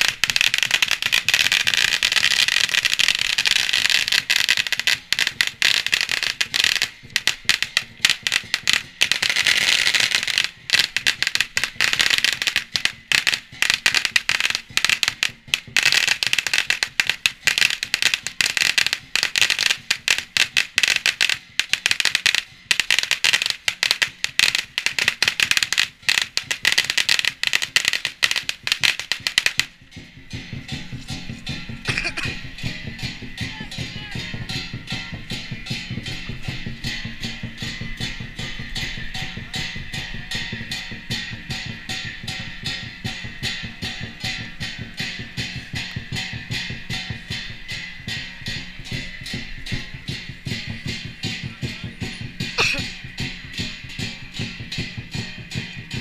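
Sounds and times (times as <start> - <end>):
firecrackers popping: 0.0 - 56.0.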